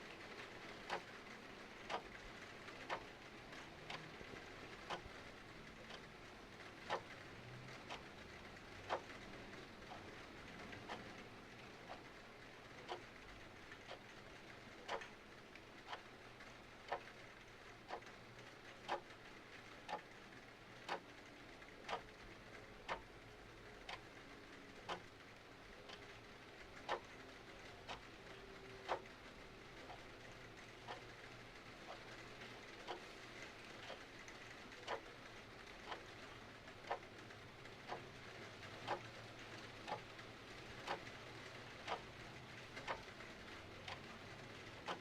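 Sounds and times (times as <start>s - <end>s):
clock ticking: 0.0s - 45.0s
soft rain hiss: 0.0s - 45.0s.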